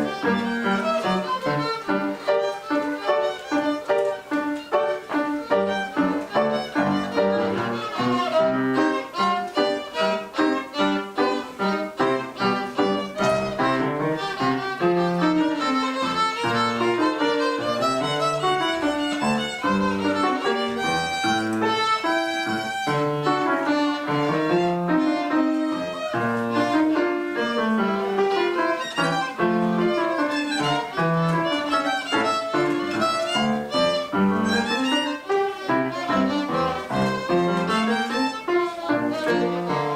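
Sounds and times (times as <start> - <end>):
piano accompaniment: 0.0 - 39.9
two violins playing: 0.0 - 39.9.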